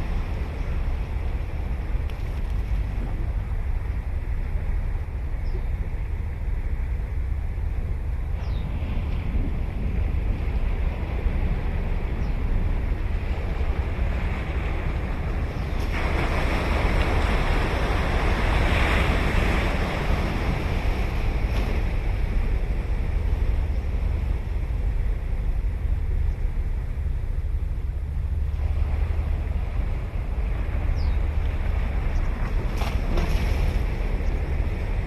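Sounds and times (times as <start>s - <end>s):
ocean surf rumble: 0.0s - 35.0s.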